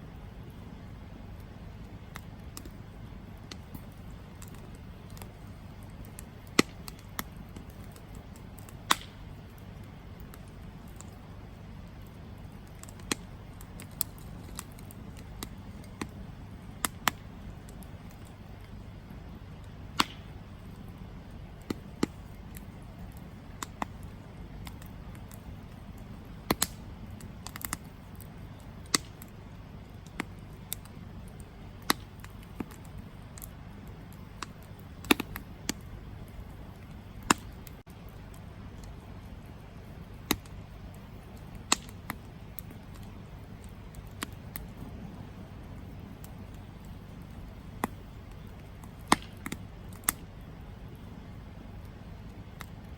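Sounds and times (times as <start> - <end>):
campfire crackling and popping: 0.0 - 52.9
low rushing fire: 0.0 - 52.9.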